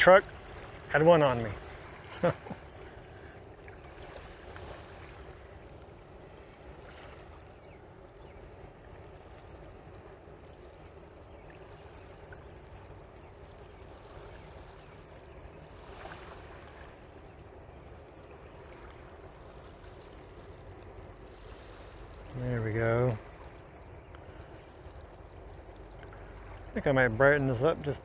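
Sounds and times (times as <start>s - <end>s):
river water at shore: 0.0s - 28.0s
ship rumble and water wash: 0.0s - 28.0s.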